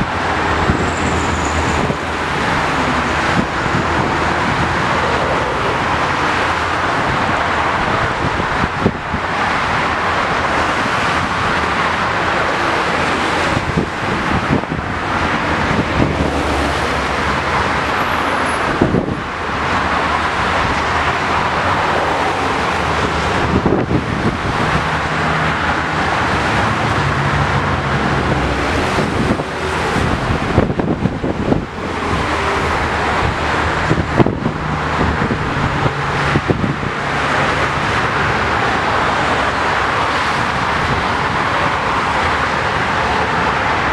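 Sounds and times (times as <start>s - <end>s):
heavy vehicle engine drone: 0.0s - 43.9s
highway traffic tyre noise: 0.0s - 43.9s.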